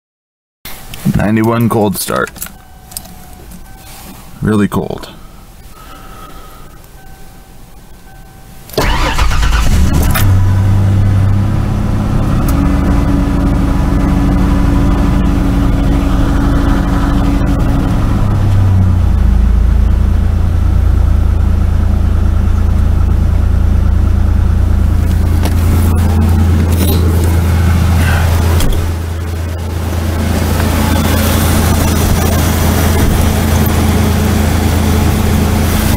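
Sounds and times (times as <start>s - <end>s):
car engine starting and idling: 0.7s - 35.9s.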